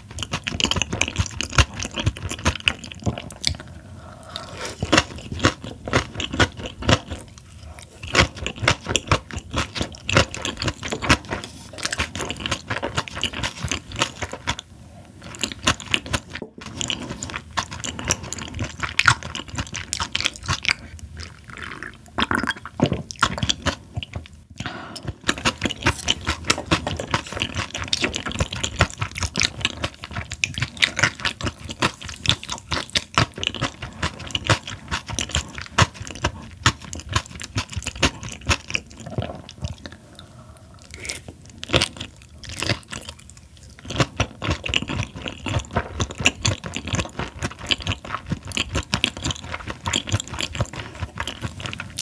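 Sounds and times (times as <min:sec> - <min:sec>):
chewing with crisp crunches: 0:00.0 - 0:52.0
wet mouth sounds: 0:00.0 - 0:52.0.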